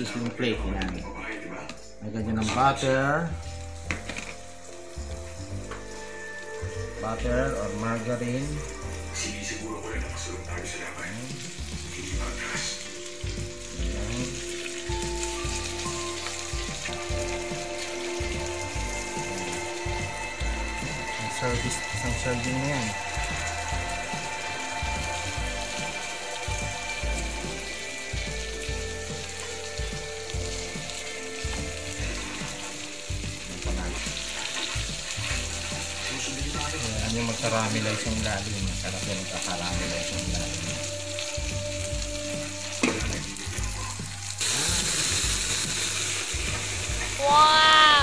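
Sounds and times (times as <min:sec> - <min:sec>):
meat sizzling on hot plate: 0:01.8 - 0:48.0.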